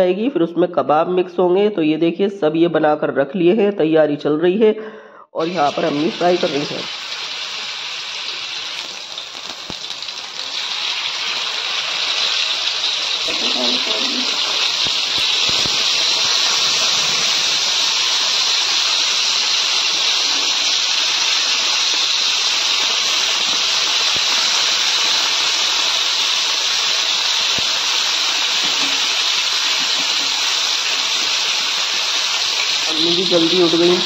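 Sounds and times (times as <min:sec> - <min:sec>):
meat sizzling in hot oil: 0:05.4 - 0:34.0.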